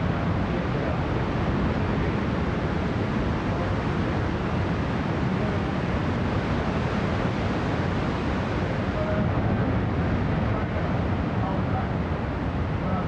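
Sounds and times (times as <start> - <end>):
heavy ocean surf roaring: 0.0 - 13.0.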